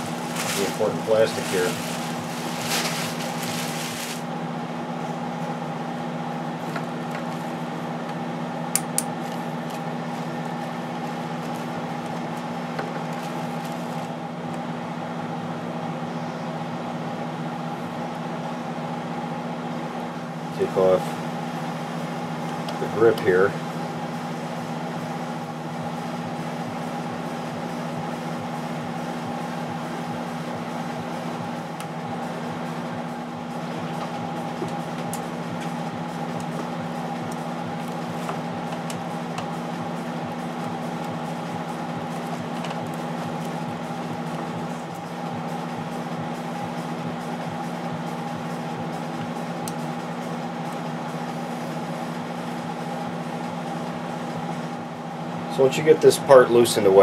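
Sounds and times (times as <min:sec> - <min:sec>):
ventilation hum: 0:00.0 - 0:57.0.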